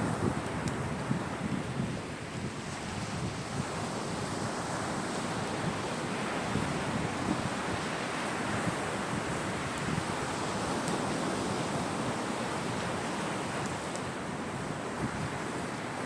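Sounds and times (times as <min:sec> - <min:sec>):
waves breaking on shore: 0:00.0 - 0:16.0.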